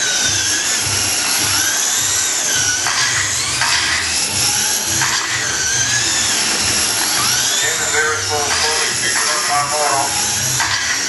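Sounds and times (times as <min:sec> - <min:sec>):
rc truck motors whining: 0:00.0 - 0:11.0.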